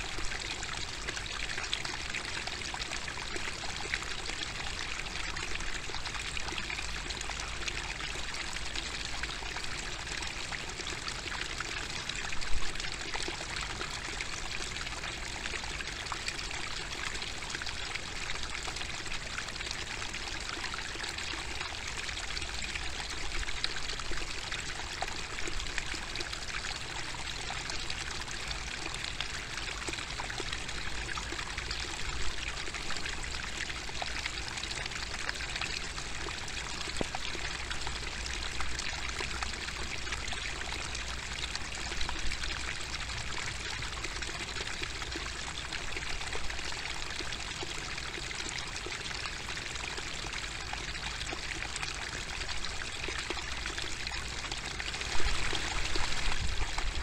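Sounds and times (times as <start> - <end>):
stream babbling over rocks: 0.0 - 57.0
water pouring into pool: 0.0 - 57.0.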